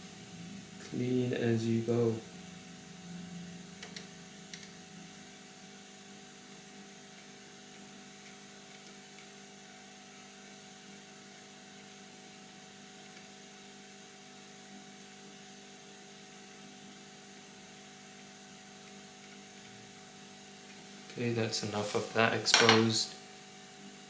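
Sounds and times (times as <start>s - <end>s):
electrical hum with fan hiss: 0.0s - 24.0s.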